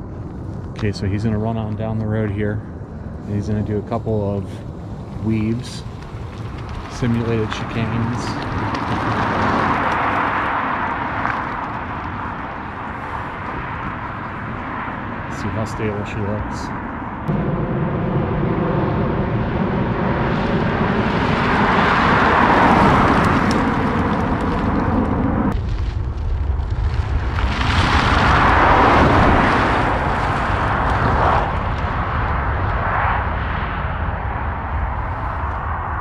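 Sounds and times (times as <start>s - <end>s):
passing car tyre and road noise: 0.0s - 36.0s
wind rumble on microphone: 0.0s - 36.0s.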